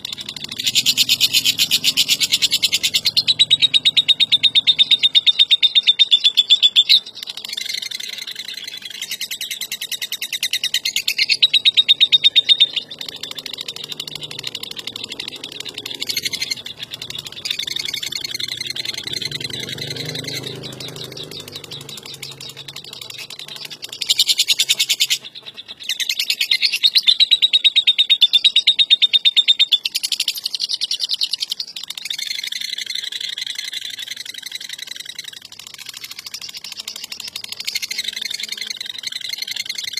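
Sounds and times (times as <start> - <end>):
lovebird chattering trills: 0.0 - 39.9.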